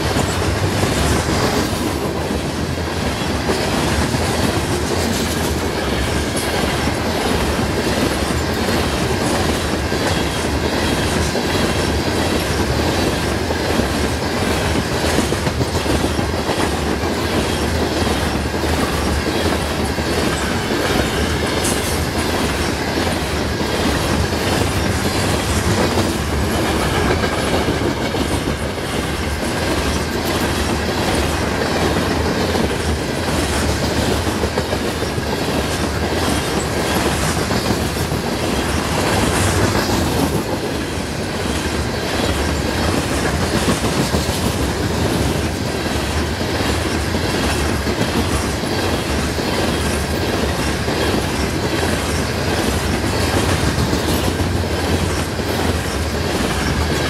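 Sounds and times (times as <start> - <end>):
freight train rumble and rattle: 0.0 - 57.0
wheels clicking over rail joints: 0.0 - 57.0.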